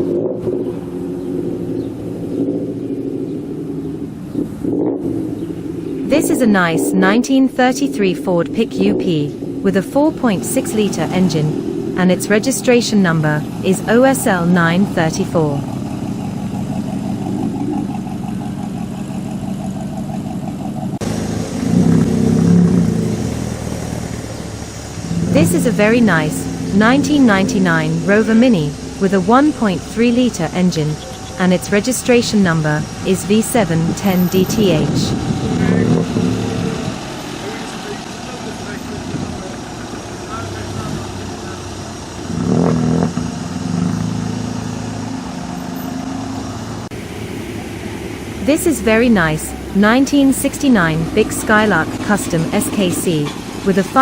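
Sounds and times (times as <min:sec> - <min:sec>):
car engine running: 0:00.0 - 0:06.8, 0:07.6 - 0:54.0
car engine idling: 0:00.0 - 0:54.0.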